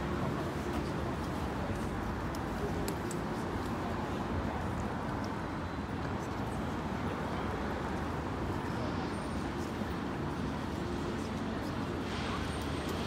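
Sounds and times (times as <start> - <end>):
urban traffic rumble: 0.0 - 13.0.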